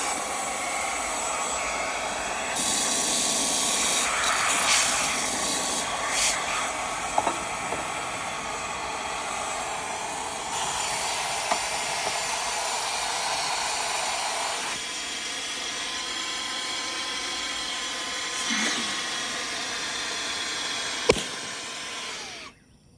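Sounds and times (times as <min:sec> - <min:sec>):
handheld vacuum cleaner running: 0:00.0 - 0:22.6.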